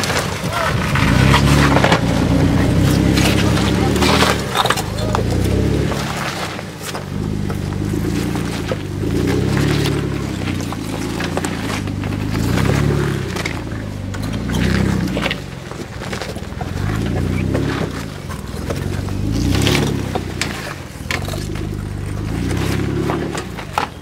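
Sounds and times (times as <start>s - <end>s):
tyres crunching over rock: 0.0s - 24.0s
engine revving in low gear: 0.5s - 24.0s.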